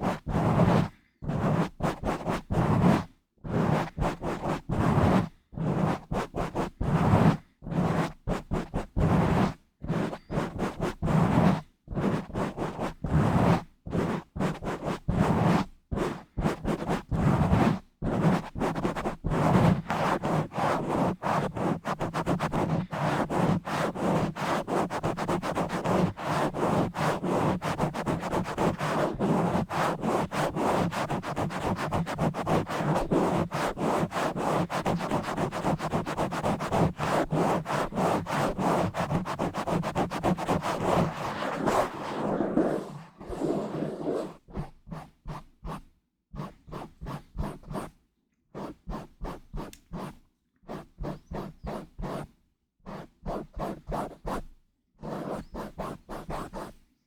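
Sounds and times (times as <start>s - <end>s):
scratching on microphone: 0.0s - 48.0s, 48.6s - 56.8s.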